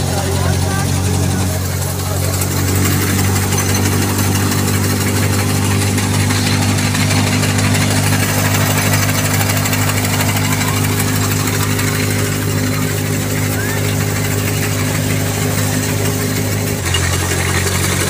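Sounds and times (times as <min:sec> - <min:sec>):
tractor and thresher humming: 0:00.0 - 0:18.0.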